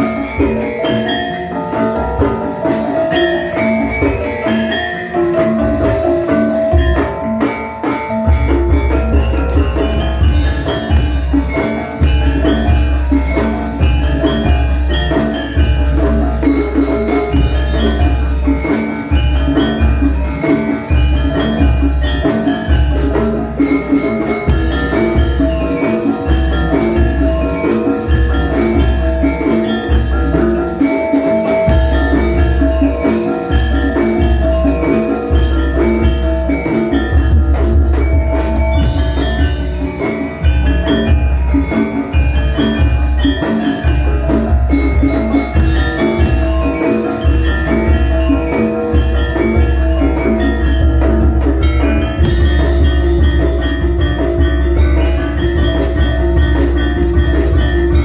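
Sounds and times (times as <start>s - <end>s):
metallophones and gongs ringing: 0.0s - 58.0s.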